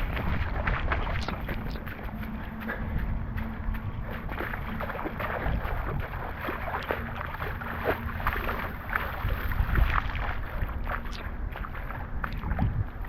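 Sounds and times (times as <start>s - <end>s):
footsteps splashing through puddles: 0.0s - 13.0s
wind rumbling on microphone: 0.0s - 13.0s.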